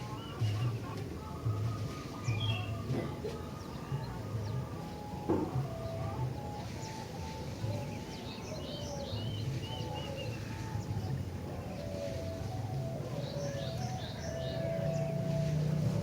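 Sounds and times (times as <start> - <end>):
bulbul whistled song: 0.0 - 16.0.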